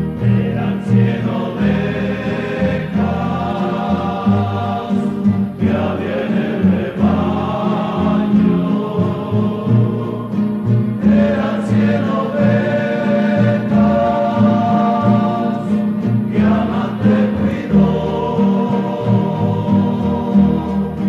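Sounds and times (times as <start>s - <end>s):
group singing a hymn in harmony: 0.0s - 21.0s
strummed guitars: 0.0s - 21.0s.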